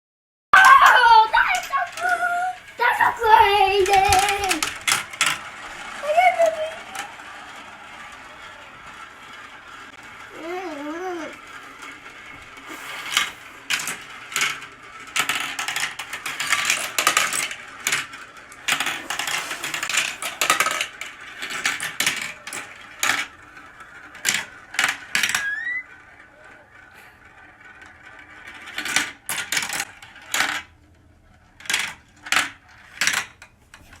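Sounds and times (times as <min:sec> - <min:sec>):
marbles rolling and clicking on track: 0:00.6 - 0:34.0.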